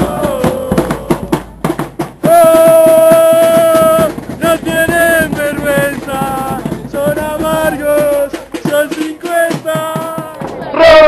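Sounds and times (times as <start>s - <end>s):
bass drums beating: 0.0s - 11.0s.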